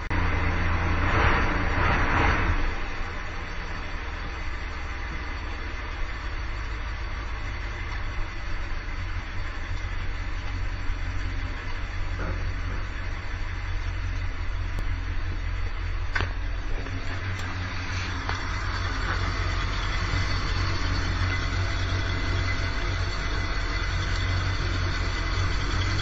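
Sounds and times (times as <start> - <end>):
van engine idling: 2.5 - 26.0.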